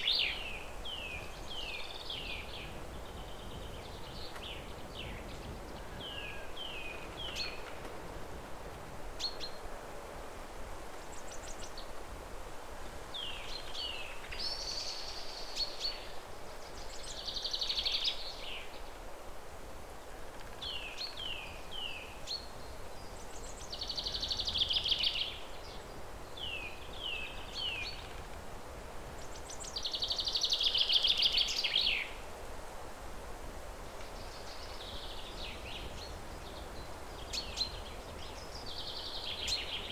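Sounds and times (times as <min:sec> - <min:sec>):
songbird singing: 0:00.0 - 0:08.1, 0:09.1 - 0:09.8, 0:11.0 - 0:12.0, 0:13.1 - 0:19.0, 0:20.0 - 0:32.3, 0:33.8 - 0:39.9
background hiss: 0:00.0 - 0:39.9.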